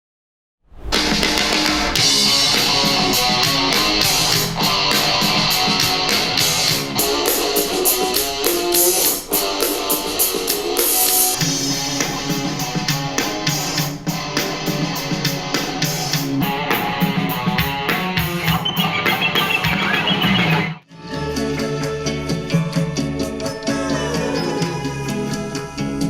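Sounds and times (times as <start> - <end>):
music with guitar and drums: 1.0 - 26.0.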